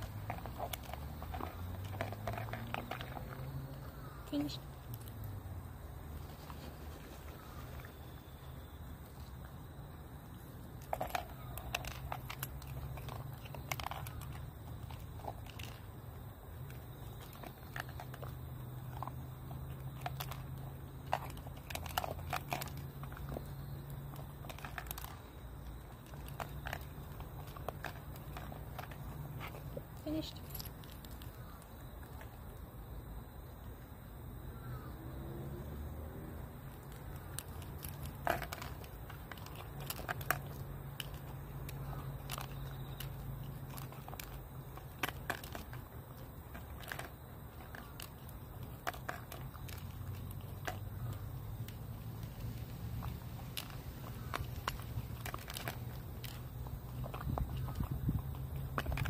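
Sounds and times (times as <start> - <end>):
dog eating from plastic bowl: 0.0 - 32.8, 35.6 - 59.0.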